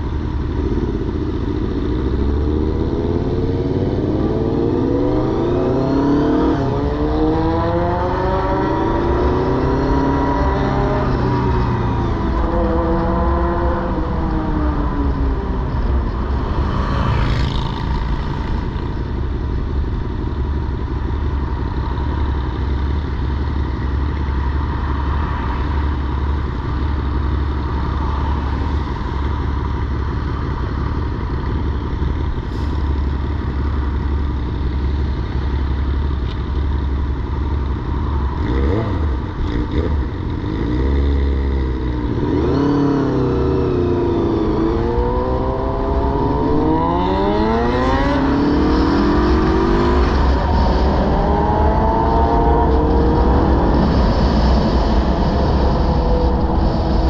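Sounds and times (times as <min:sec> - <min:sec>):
motorcycle engine revving: 0:00.5 - 0:24.7, 0:33.3 - 0:57.0.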